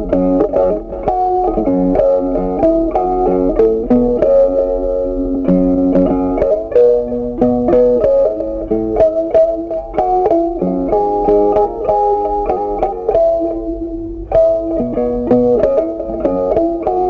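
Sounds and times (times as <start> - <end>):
plucked string instrument melody: 0.0 - 17.0.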